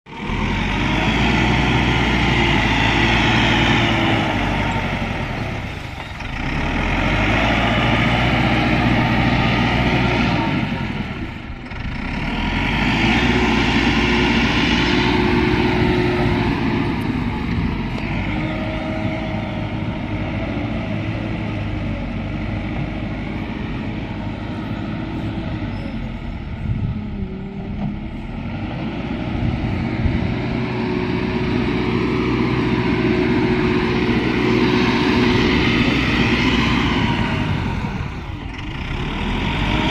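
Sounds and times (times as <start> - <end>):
bulldozer diesel engine under load: 0.1 - 39.9.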